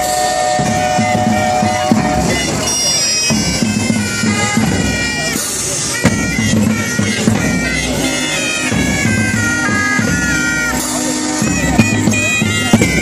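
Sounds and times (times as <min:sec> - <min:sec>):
cymbal strokes: 0:00.0 - 0:12.2
drum beats: 0:00.0 - 0:13.0
reedy pipes melody: 0:00.0 - 0:13.0.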